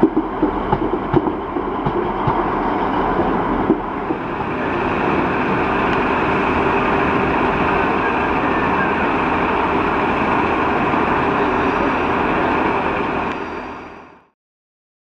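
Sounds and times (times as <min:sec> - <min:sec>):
train engine and wheel noise: 0:00.0 - 0:14.4.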